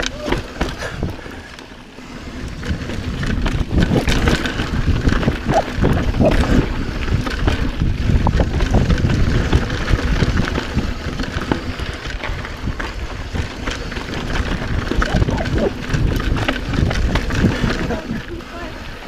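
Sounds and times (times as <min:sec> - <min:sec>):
bike clicking and rattling: 0:00.0 - 0:19.0
bike tyres rumbling over dirt: 0:00.0 - 0:19.0
wind on microphone: 0:00.0 - 0:19.0.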